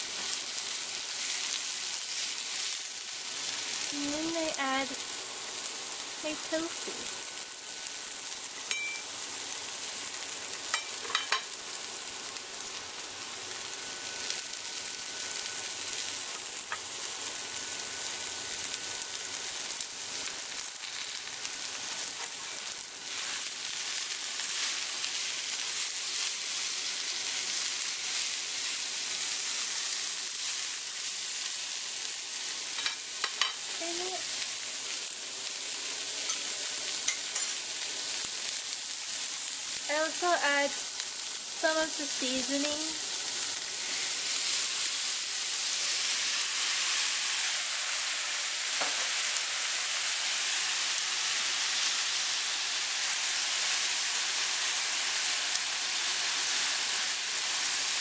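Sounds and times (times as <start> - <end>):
vegetables sizzling in a frying pan: 0.0 - 58.0.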